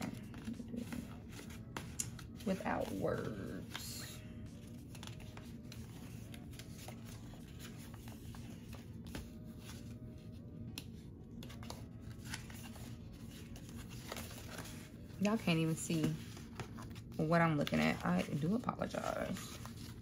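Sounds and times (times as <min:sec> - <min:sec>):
low steady room hum: 0:00.0 - 0:20.0
paper pages rustling: 0:00.0 - 0:20.0.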